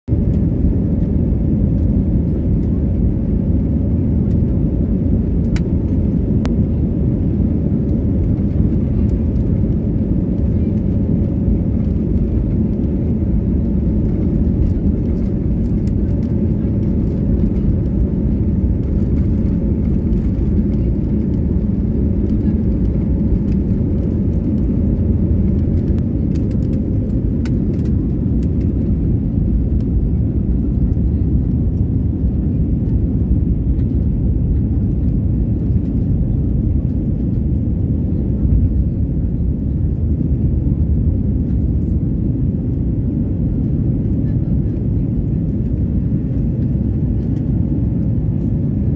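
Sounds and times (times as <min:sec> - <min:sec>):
jet engines at take-off thrust: 0:00.1 - 0:48.9.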